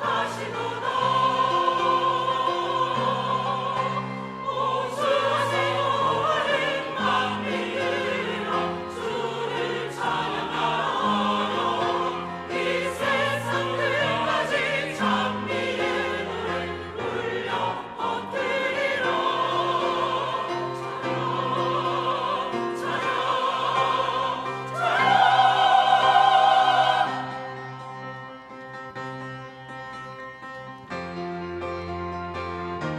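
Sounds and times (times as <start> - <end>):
church choir singing: 0.0 - 30.2.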